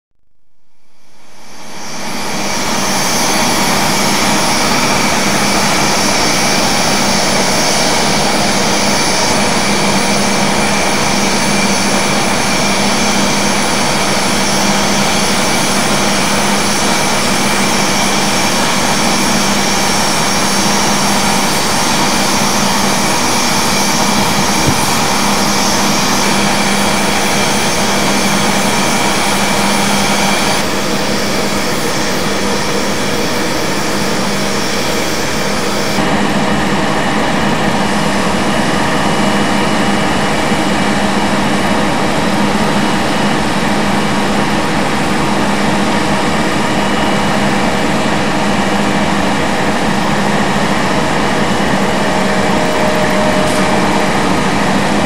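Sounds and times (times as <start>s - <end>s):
hissing whine: 0.8s - 55.0s
locomotive diesel engines humming: 1.4s - 55.0s.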